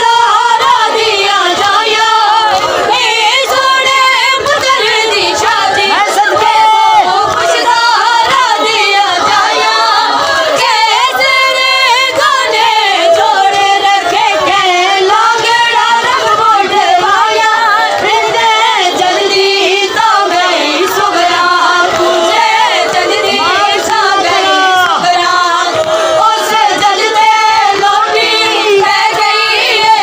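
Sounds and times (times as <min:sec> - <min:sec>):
woman singing a lament: 0:00.0 - 0:30.0.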